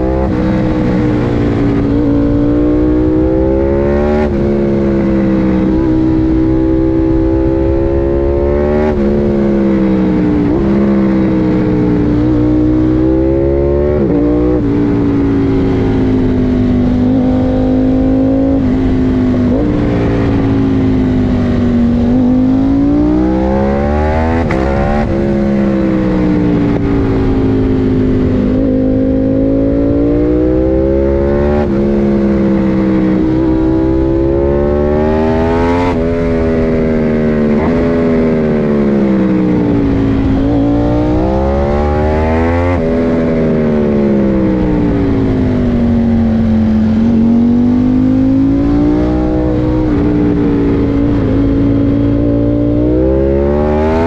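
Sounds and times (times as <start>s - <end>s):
motorcycle engine revving through gears: 0.0s - 54.0s.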